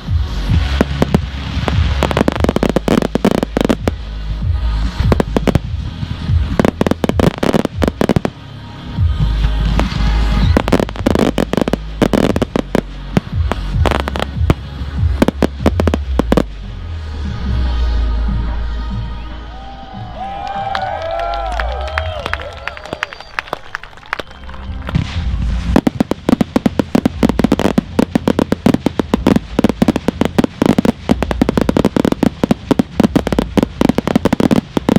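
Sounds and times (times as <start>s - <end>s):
fireworks bangs and booms: 0.0s - 16.7s, 20.3s - 34.9s.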